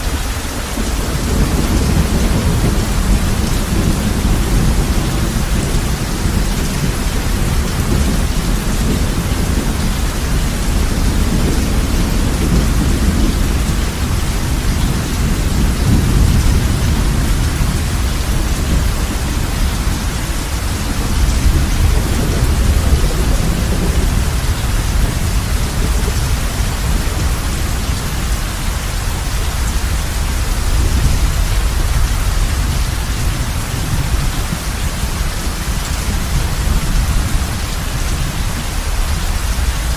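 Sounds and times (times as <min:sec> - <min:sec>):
heavy rain on a roof: 0:00.0 - 0:39.9
low thunder rumble: 0:00.0 - 0:39.9.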